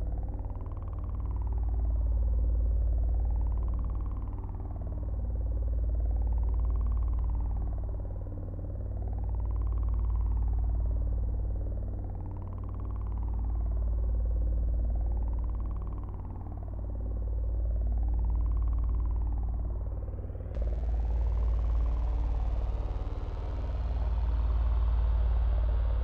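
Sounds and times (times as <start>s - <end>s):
deep steady rumble: 0.0s - 26.0s.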